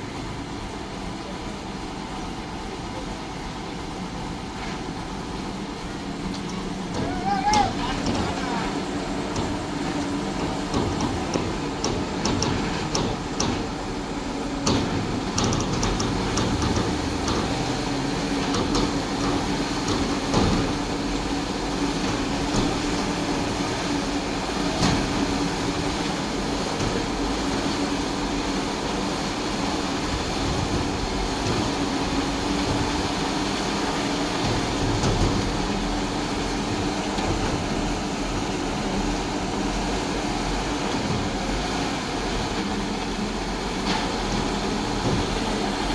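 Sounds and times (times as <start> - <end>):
truck engines humming: 0.0 - 45.9.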